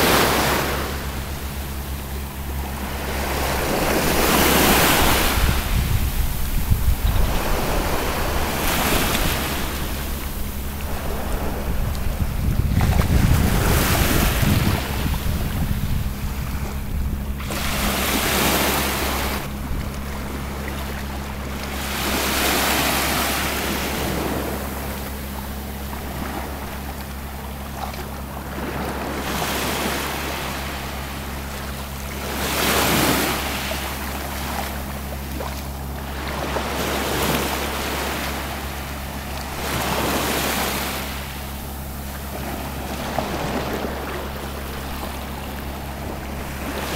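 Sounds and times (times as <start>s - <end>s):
wind rumble on microphone: 0.0s - 46.9s
small waves breaking on beach: 2.6s - 16.8s, 17.4s - 46.9s.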